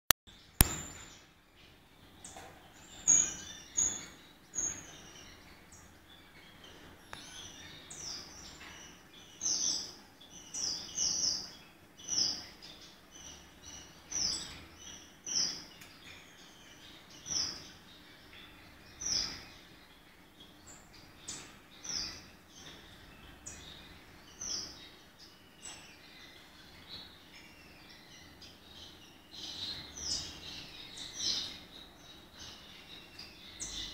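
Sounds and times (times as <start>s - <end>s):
high finch chirps: 0.4s - 33.9s.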